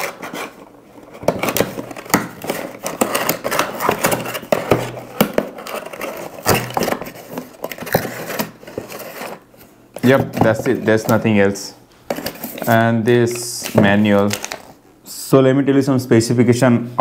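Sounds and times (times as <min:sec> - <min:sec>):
cardboard rustling and scraping: 0:00.0 - 0:14.8.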